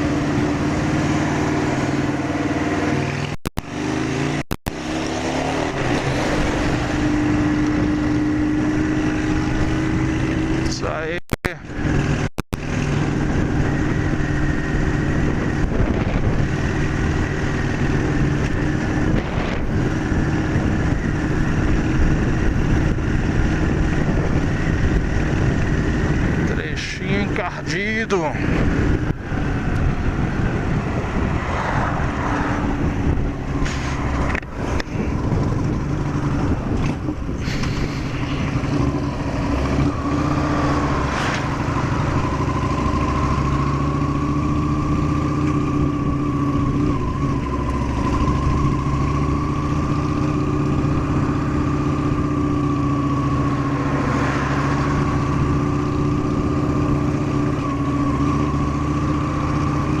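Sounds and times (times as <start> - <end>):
motorcycle engine under load: 11.6 - 60.0.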